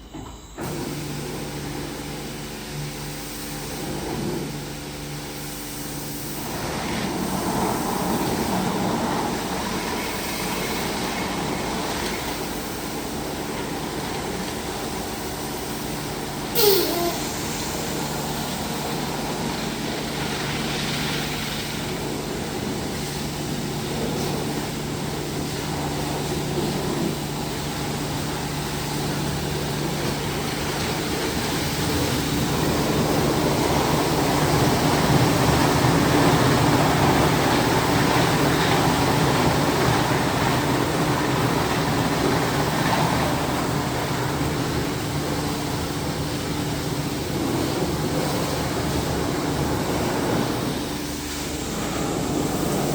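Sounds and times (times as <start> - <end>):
car wash machine washing: 0.0 - 52.9.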